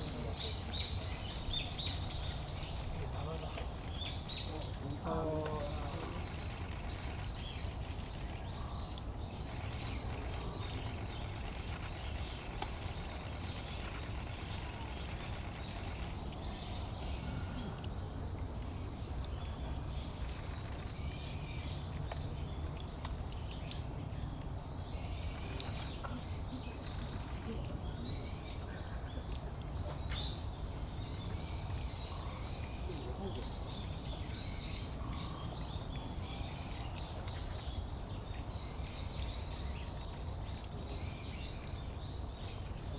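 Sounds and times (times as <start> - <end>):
cricket trilling: 0.0 - 42.9.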